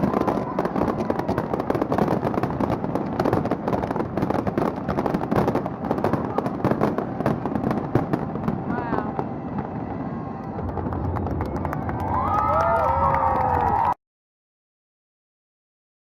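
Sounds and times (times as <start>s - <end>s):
fireworks crackling: 0.0s - 13.9s.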